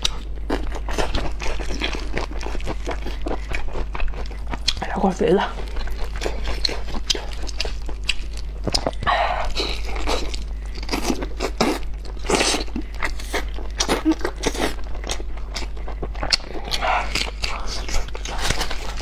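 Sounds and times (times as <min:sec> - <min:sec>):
biting and tearing meat: 0:00.0 - 0:04.8, 0:05.6 - 0:19.0
wet chewing and mouth smacks: 0:00.0 - 0:04.9, 0:05.6 - 0:19.0
steady low hum: 0:00.0 - 0:19.0.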